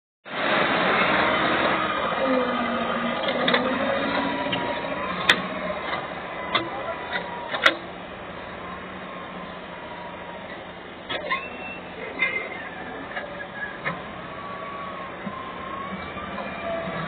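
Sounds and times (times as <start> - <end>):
diesel engine running: 0.3 - 17.0.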